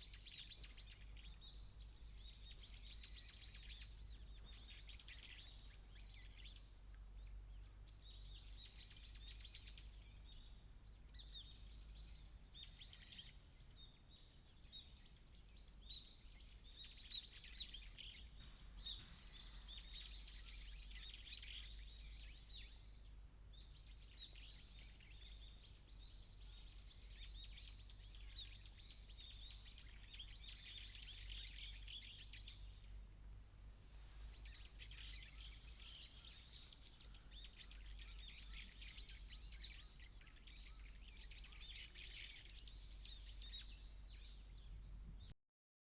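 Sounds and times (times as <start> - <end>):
songbirds chirping: 0.0 - 45.4.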